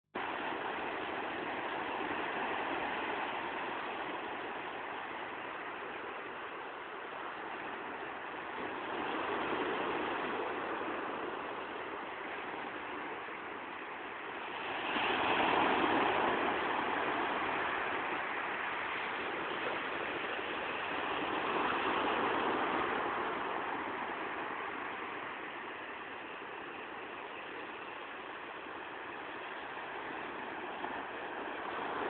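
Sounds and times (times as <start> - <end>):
ocean waves breaking: 0.2 - 32.0.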